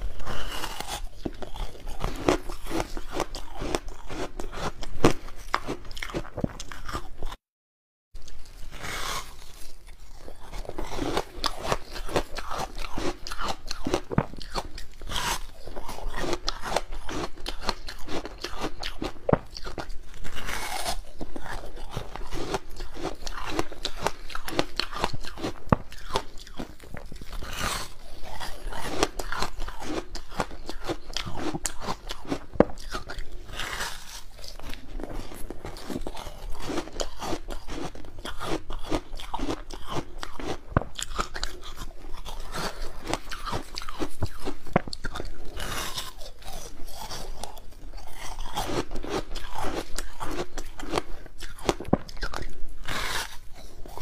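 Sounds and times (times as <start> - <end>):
ice block crunching and chewing: 0.0 - 7.4, 8.2 - 54.0.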